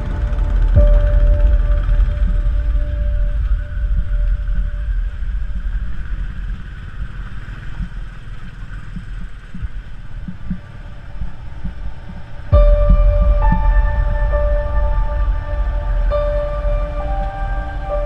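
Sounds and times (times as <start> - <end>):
motorcycle engine low rumble: 0.0 - 18.0.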